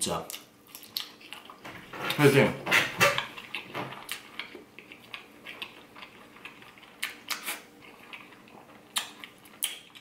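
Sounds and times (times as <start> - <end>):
person chewing food: 0.3 - 2.2, 2.8 - 10.0.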